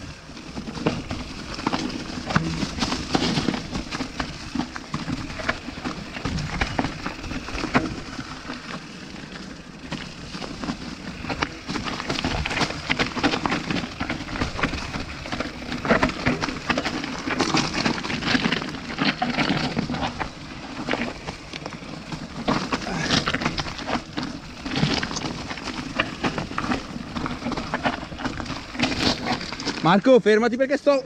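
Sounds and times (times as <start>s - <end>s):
tyres crunching over stones: 0.0s - 30.3s
bike rattling: 0.0s - 31.0s.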